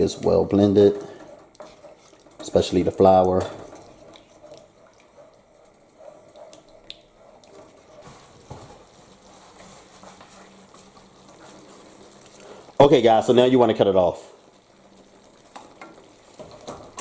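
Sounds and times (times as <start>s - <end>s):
gravy simmering in a skillet: 0.0s - 17.0s.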